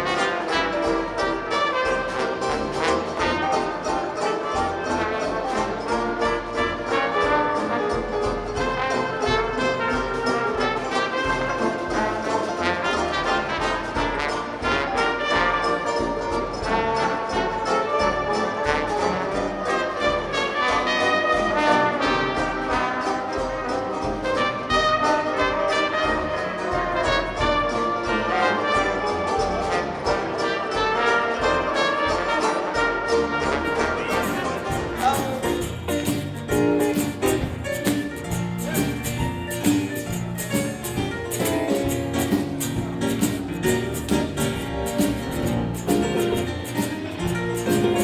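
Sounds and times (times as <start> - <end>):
dixieland jazz band playing: 0.0 - 48.0.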